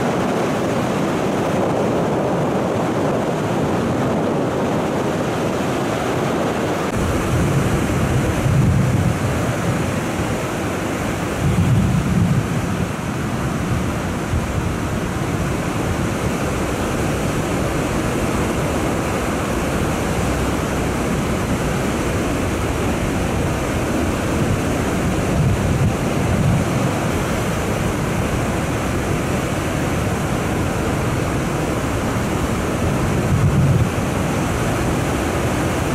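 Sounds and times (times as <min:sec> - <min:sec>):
heavy surf breaking: 0:00.0 - 0:35.9
wind buffeting microphone: 0:00.0 - 0:35.9.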